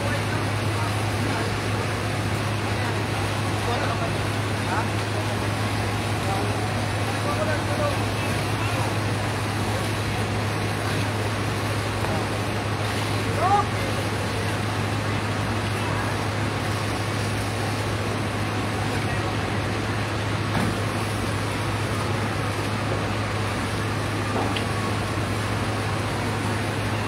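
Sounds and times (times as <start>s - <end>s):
pump engines running: 0.0s - 27.0s.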